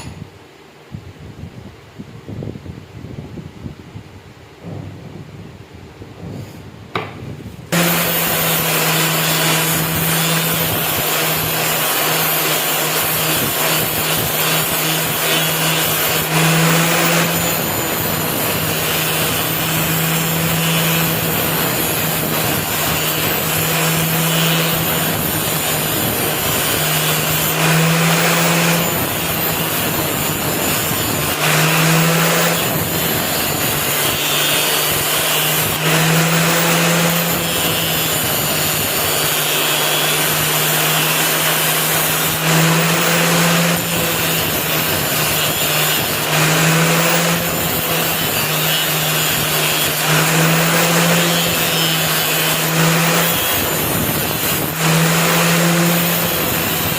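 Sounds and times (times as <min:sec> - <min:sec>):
electric grinder grinding steel: 0:07.7 - 0:56.9.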